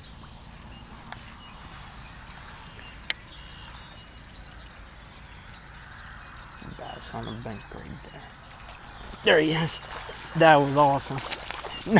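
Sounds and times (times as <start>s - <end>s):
faint bird chirps: 0.0s - 10.6s
wind rumbling on microphone: 0.0s - 11.9s.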